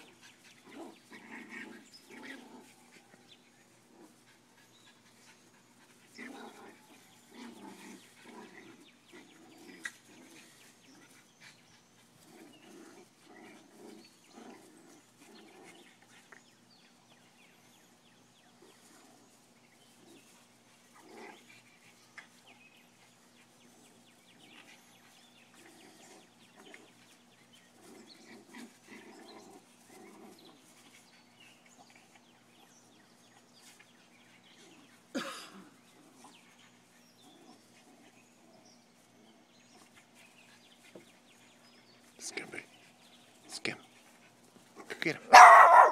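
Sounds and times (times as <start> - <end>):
dogs grunting and scuffling: 0.0 - 45.9.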